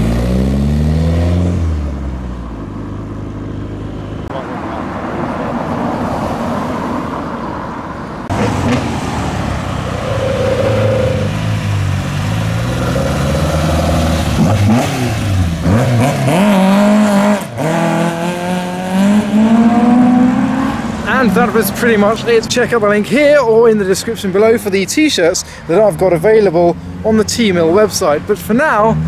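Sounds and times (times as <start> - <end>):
car accelerating: 0.0 - 23.8
car engines revving: 0.0 - 29.0.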